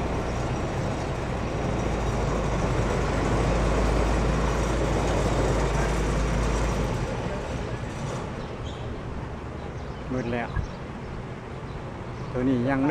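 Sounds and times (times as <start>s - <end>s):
engine humming: 0.0s - 12.8s.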